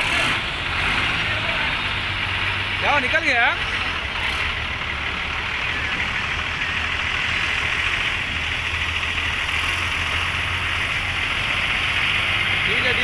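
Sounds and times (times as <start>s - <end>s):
diesel engine running at low revs: 0.0s - 13.0s.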